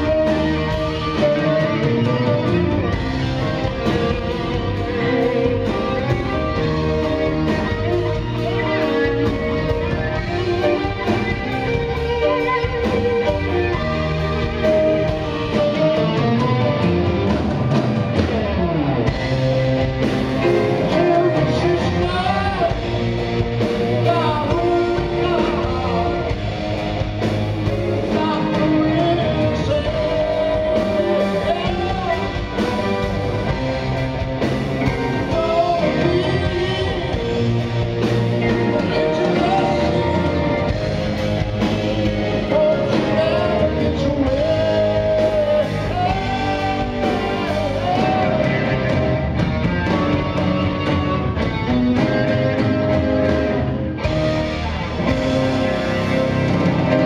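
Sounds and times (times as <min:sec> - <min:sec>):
electric guitar bending notes: 0:00.0 - 0:57.0
live rock band playing: 0:00.0 - 0:57.0.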